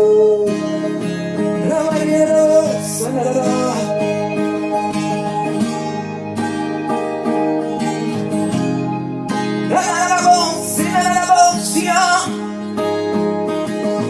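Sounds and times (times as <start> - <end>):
acoustic guitar strumming chords: 0.0 - 14.0
bright melodic line: 0.5 - 14.0.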